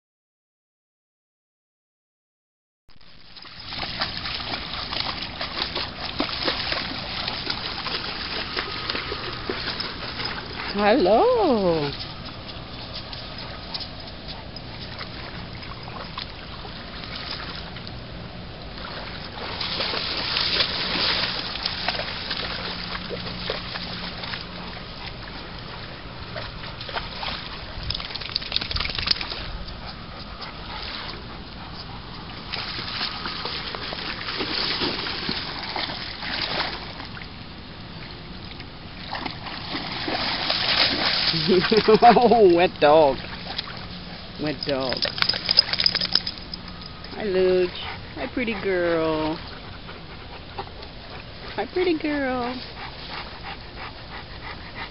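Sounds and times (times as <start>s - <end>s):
dog splashing through shallow water: 3.1s - 54.5s.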